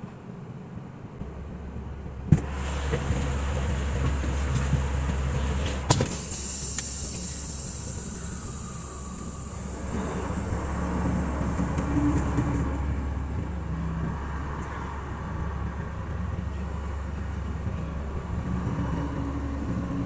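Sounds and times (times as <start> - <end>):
truck engine humming: 1.2 - 20.0.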